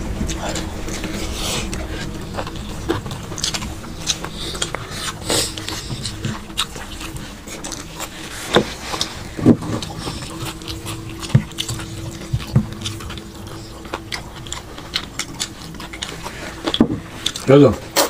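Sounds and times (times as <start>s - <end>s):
steady low hum: 0.0s - 18.0s
chewing and lip smacks: 0.2s - 18.0s.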